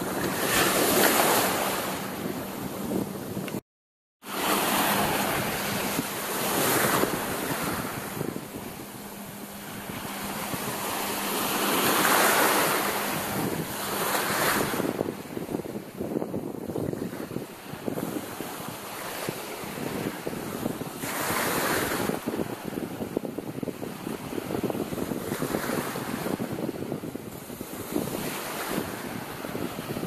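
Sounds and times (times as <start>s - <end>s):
surf washing over sand: 0.0s - 3.6s, 4.2s - 30.0s
wind on microphone: 0.0s - 3.6s, 4.3s - 30.0s.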